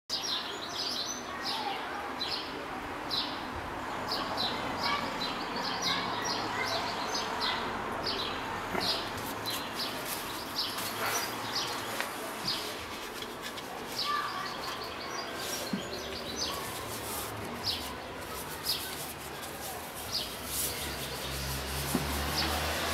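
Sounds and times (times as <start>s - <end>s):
small birds chirping: 3.1s - 22.9s.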